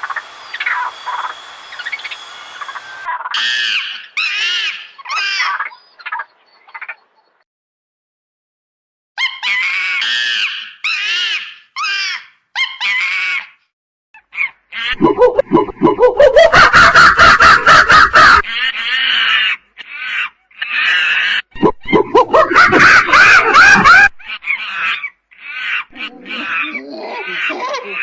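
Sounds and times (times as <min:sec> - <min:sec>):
monkey pulsing scream: 0:00.0 - 0:05.4, 0:09.2 - 0:13.5, 0:14.4 - 0:28.0
monkey screeching: 0:00.0 - 0:05.5, 0:09.2 - 0:13.5, 0:14.3 - 0:28.0.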